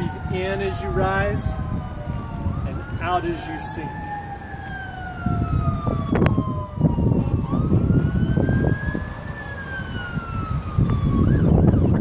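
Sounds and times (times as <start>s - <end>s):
siren wailing: 0.0s - 12.0s
wind buffeting microphone: 0.0s - 12.0s.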